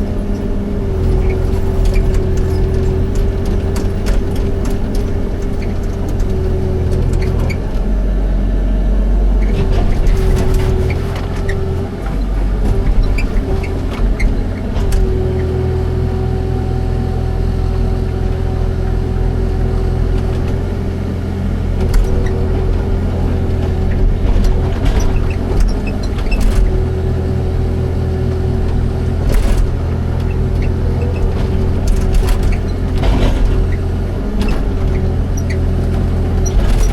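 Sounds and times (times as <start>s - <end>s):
excavator diesel engine droning: 0.0s - 36.9s.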